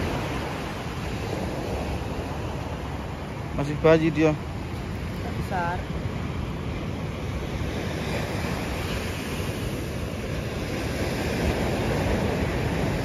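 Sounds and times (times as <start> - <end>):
ocean surf on a beach: 0.0 - 13.0
wind buffeting microphone: 0.0 - 13.0.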